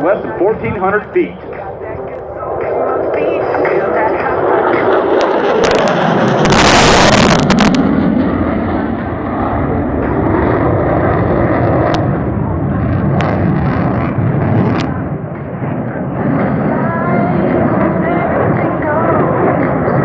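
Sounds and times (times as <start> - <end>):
loud jet engine roar: 0.0 - 20.0.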